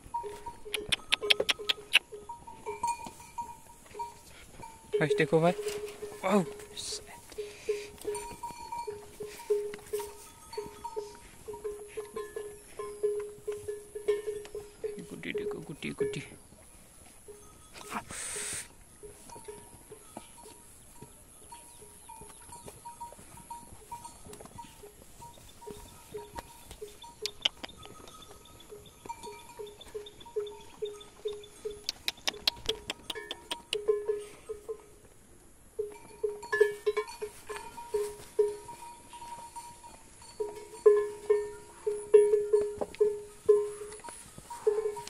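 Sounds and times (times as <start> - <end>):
cowbell clanking: 0.0 - 16.4, 17.2 - 35.0, 35.7 - 45.0.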